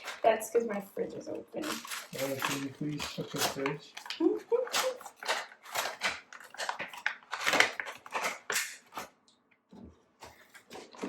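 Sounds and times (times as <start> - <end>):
objects crinkling and rattling: 0.0 - 11.0.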